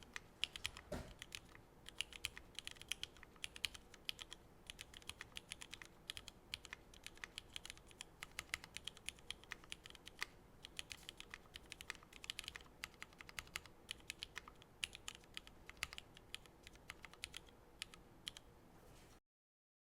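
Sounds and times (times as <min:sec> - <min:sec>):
mechanical keyboard keystroke clacks: 0:00.1 - 0:18.4.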